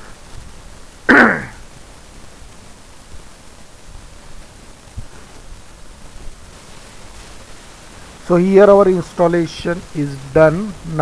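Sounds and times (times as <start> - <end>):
microphone background hiss: 0.0 - 11.0.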